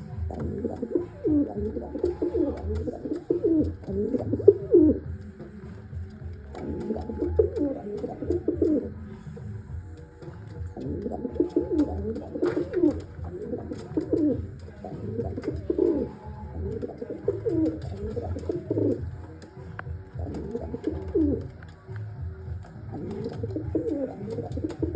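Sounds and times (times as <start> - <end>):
pigeon cooing: 0.0 - 21.8, 22.6 - 24.9.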